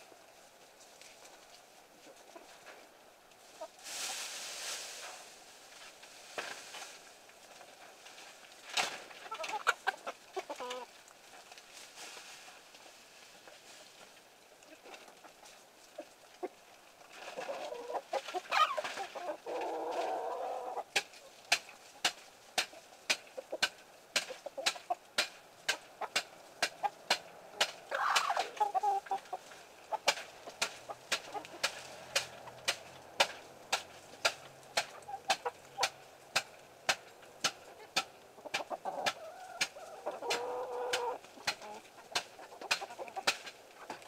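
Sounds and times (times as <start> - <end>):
chickens clucking and squawking: 1.8 - 5.6, 9.0 - 11.5, 13.2 - 44.0.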